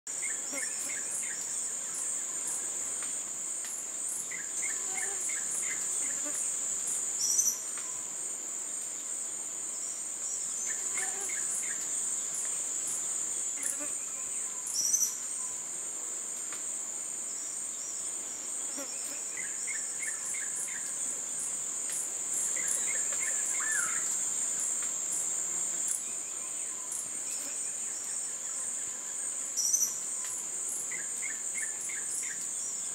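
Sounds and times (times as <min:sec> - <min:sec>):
insect drone: 0:00.1 - 0:32.9.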